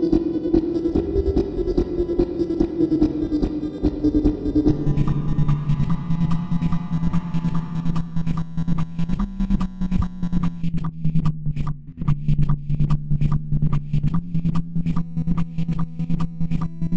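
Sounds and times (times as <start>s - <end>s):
looped electronic music: 0.0s - 16.9s
low bass drone: 0.0s - 16.9s.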